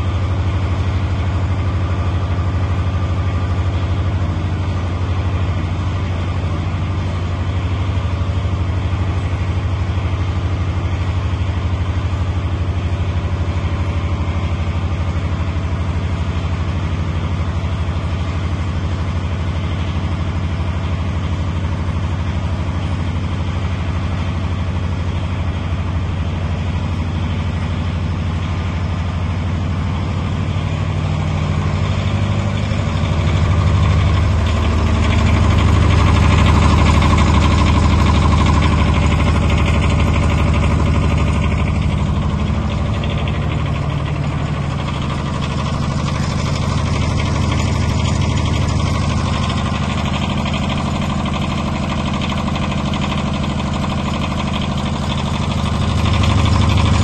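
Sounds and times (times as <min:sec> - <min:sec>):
generator engine running: 0:00.0 - 0:57.0.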